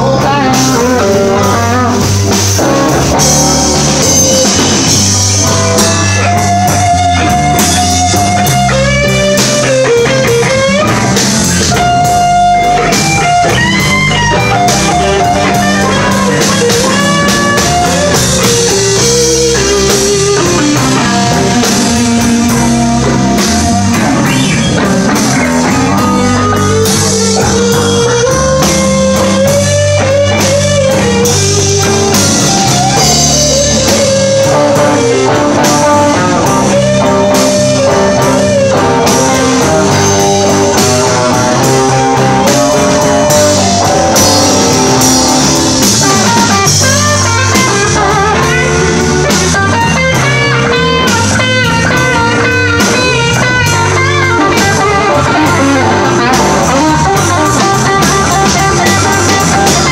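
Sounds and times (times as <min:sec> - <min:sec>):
blues band playing: 0:00.0 - 0:59.9
electric guitar bent notes: 0:00.0 - 0:59.9.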